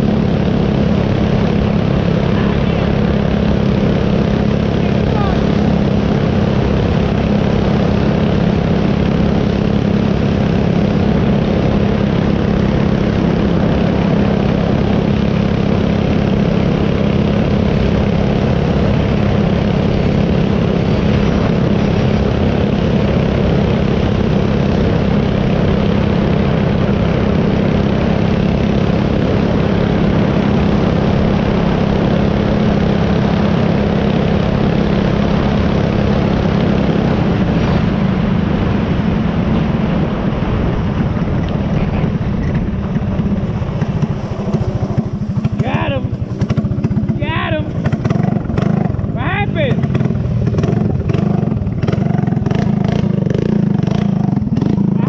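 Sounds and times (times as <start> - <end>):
dirt-bike engine running: 0.0 - 55.0
wind rushing over microphone: 0.0 - 55.0.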